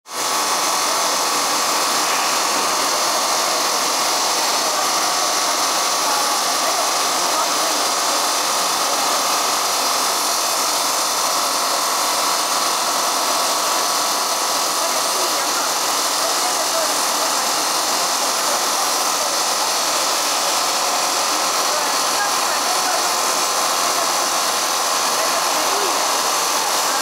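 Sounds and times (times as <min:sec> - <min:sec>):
stone saw grinding: 0:00.1 - 0:27.0.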